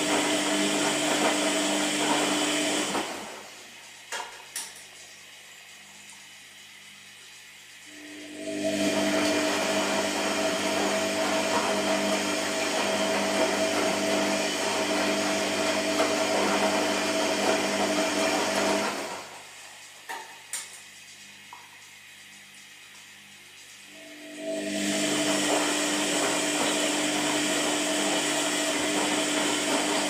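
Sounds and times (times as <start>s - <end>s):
washing machine motor running: 0.0s - 30.0s.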